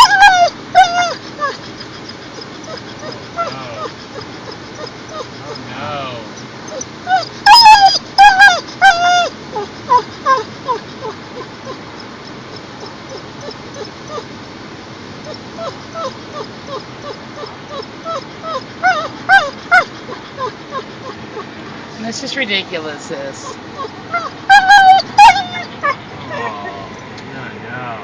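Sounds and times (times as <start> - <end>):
dog whining and whimpering: 0.0 - 14.4, 15.2 - 21.9, 23.4 - 27.3.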